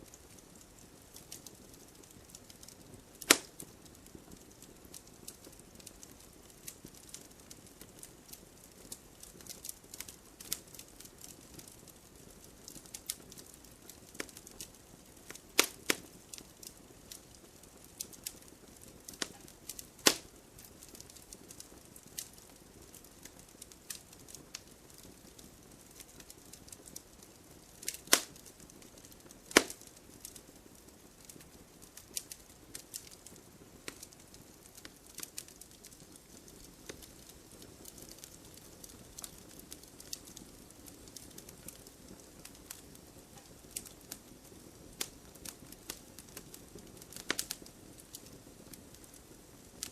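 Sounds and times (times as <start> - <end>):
faint steady hiss: 0.0 - 49.9
log fire crackling and popping: 0.0 - 49.9.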